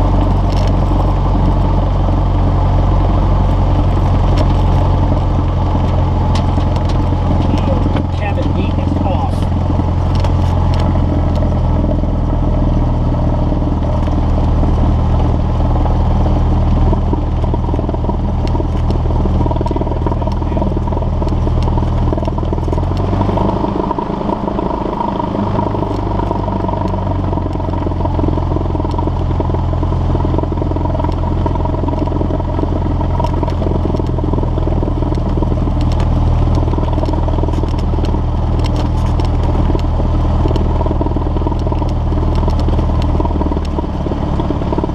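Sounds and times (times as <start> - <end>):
propeller plane engine droning: 0.0 - 44.9.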